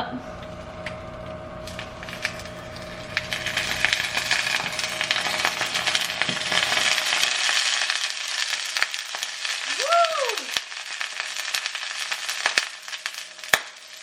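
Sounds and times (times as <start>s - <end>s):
egg sizzling in a pan: 0.4s - 14.0s.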